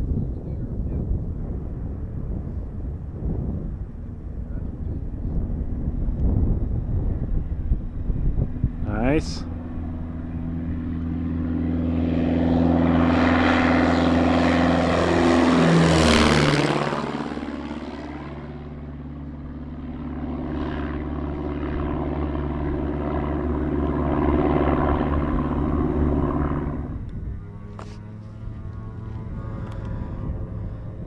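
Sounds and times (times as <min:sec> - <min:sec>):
aircraft engine under power: 0:00.0 - 0:31.0
propeller airplane passing: 0:00.0 - 0:31.0.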